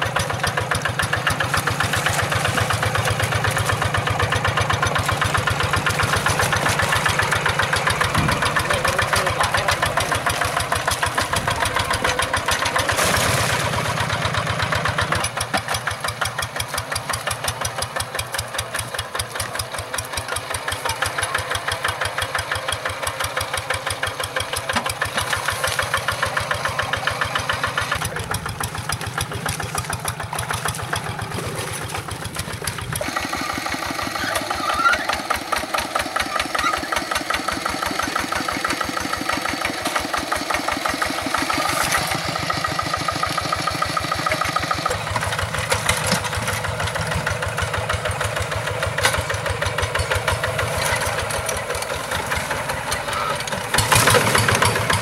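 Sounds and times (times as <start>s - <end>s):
single-cylinder diesel engine running: 0.0s - 55.0s.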